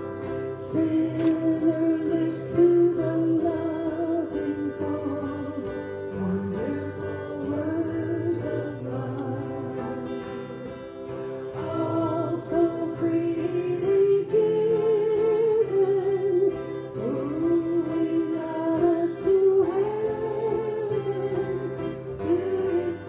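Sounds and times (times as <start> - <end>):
acoustic and electric guitars: 0.0 - 23.0
person singing: 0.0 - 23.0.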